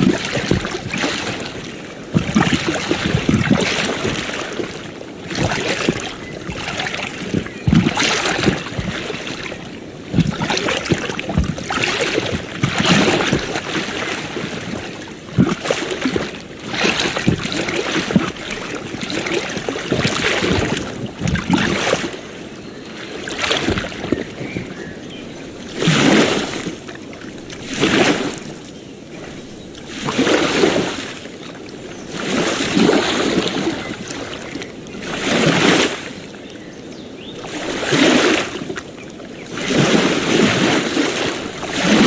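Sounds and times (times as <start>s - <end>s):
ocean waves splashing on shore: 0.0s - 42.0s.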